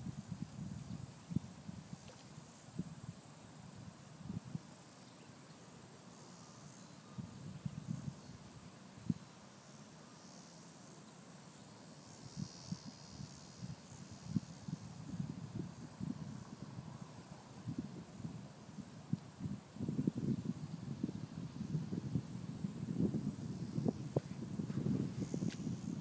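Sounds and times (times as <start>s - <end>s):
chorus of insects: 0.0s - 26.0s.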